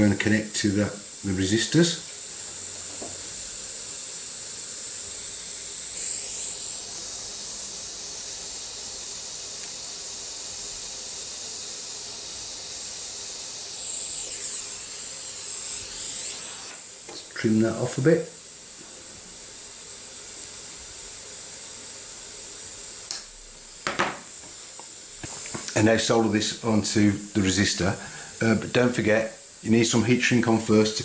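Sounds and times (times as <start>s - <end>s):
gas soldering iron hissing: 0.0s - 31.0s.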